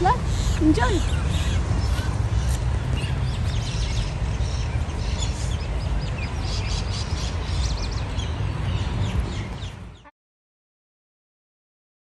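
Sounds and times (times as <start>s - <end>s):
wind rumble on microphone: 0.0s - 10.0s
small birds chirping: 0.0s - 10.1s.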